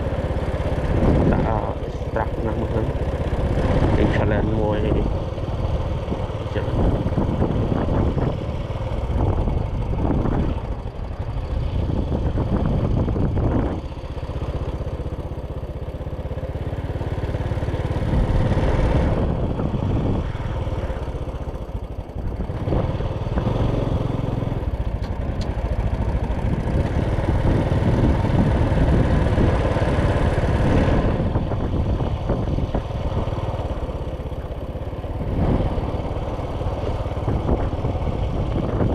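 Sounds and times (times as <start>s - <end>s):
motorcycle engine running: 0.0s - 38.9s
wind and road rumble: 0.0s - 38.9s.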